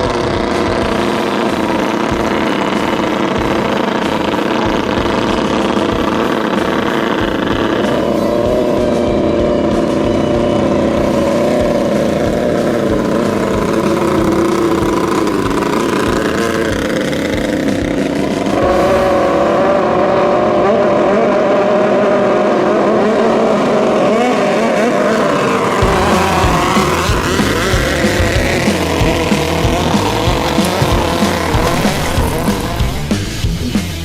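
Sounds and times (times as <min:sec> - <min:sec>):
speedboat engines revving: 0:00.0 - 0:34.0.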